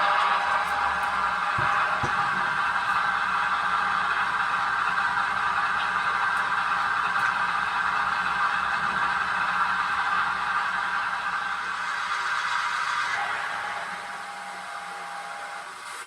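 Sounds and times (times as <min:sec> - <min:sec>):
simulated tank engine running: 0:00.0 - 0:16.0.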